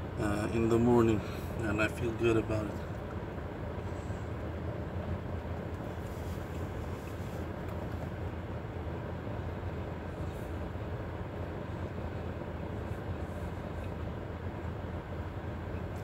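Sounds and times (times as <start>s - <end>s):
car cabin low rumble: 0.0s - 16.0s.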